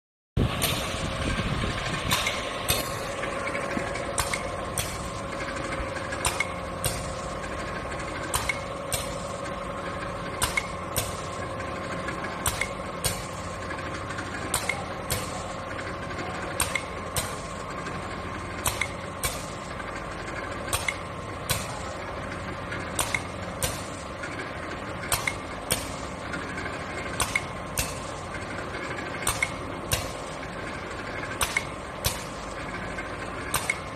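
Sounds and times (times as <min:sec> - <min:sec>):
filling machine hum: 0:00.4 - 0:33.9
sharp machine clicks: 0:00.5 - 0:33.9.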